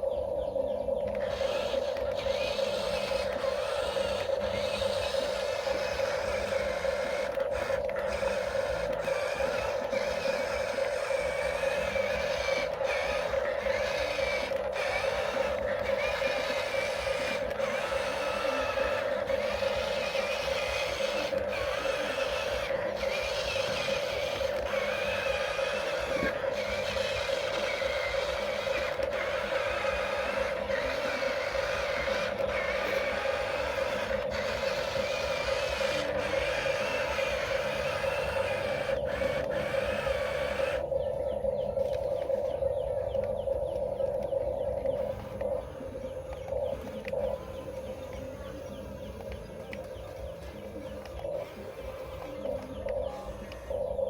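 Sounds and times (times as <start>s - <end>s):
toy excavator motors whirring: 0.0s - 54.0s.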